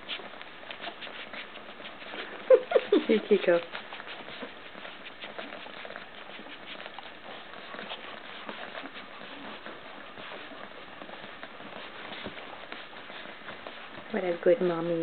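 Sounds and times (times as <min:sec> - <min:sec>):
puppies suckling clicks and smacks: 0:00.0 - 0:15.0.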